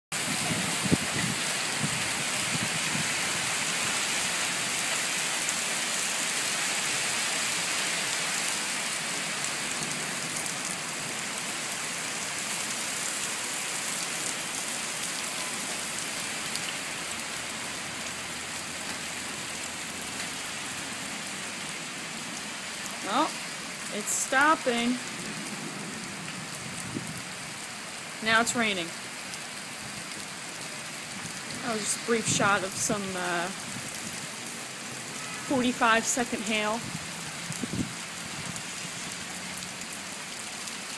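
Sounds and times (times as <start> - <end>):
hail and heavy rain on pavement: 0.1 - 40.9.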